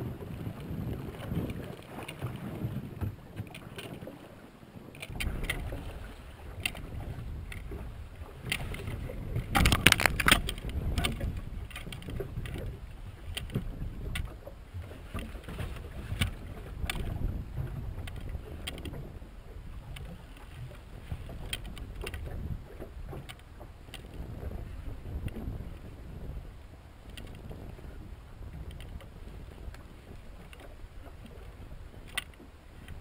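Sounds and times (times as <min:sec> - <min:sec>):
clicks and knocks from boat: 0:00.0 - 0:33.0
water against hull: 0:00.0 - 0:33.0
wind on microphone: 0:00.0 - 0:33.0.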